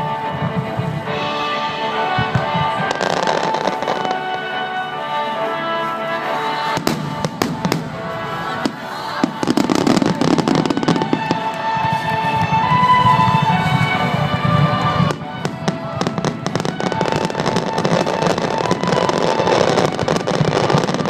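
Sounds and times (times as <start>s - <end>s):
fireworks bangs: 0.0s - 21.0s
fireworks bursting and crackling: 0.0s - 21.0s
music: 0.0s - 21.0s.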